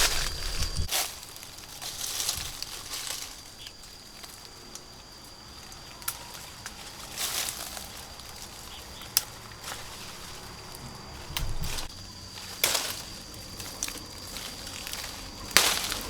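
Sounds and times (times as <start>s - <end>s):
leaves and branches rustling: 0.0s - 16.0s.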